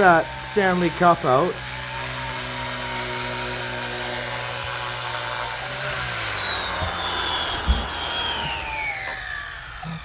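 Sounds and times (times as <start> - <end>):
toy helicopter motors whining: 0.0 - 10.0.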